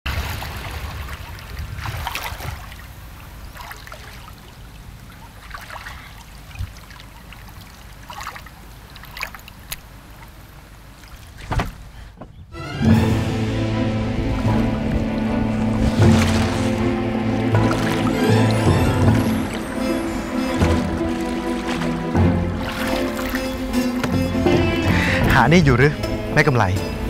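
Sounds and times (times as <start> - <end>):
small water splashes: 0.1 - 12.1, 14.2 - 24.9
river water lapping: 0.1 - 27.0.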